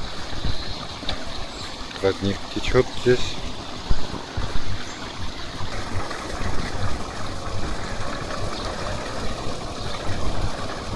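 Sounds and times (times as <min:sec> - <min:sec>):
spring water flowing: 0:00.0 - 0:10.9.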